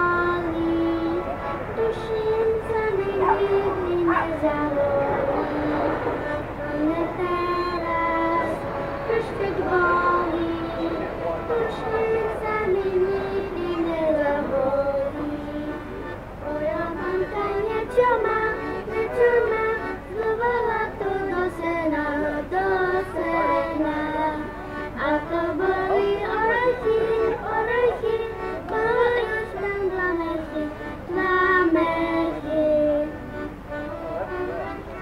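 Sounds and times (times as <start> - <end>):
child singing folk song: 0.0 - 35.0
piano accordion: 0.0 - 35.0.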